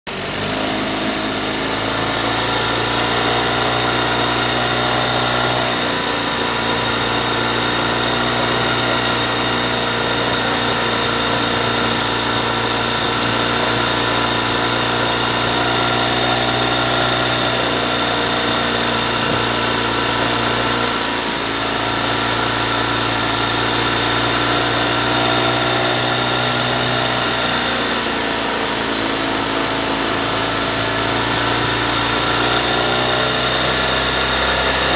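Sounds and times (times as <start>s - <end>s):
outboard motor running: 0.1s - 34.9s.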